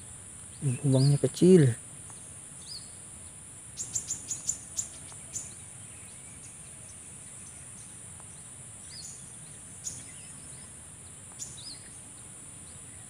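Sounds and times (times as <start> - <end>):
faint bird chirp: 0.0 - 13.0
insects chirping: 0.0 - 13.0.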